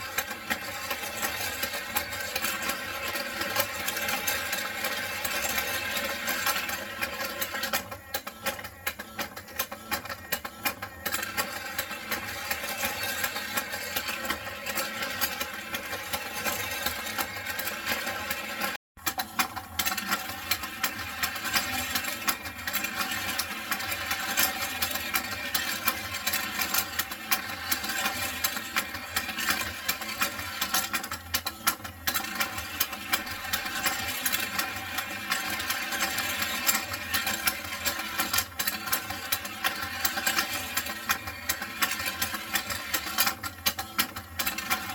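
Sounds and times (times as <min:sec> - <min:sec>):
plastic toy lift clattering: 0:00.0 - 0:44.9.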